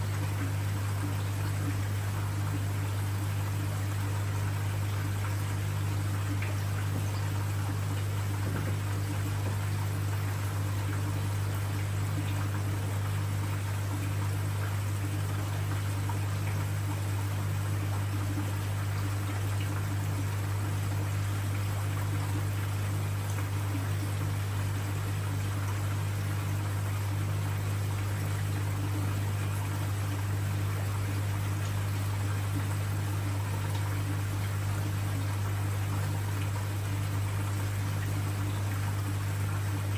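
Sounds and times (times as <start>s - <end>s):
pump humming: 0.0s - 39.9s
water trickling and splashing: 0.0s - 39.9s.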